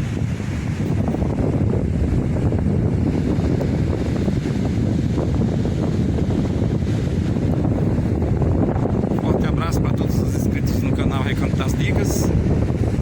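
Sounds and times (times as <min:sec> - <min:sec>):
beach surf: 0:00.0 - 0:13.0
wind buffeting microphone: 0:00.0 - 0:13.0.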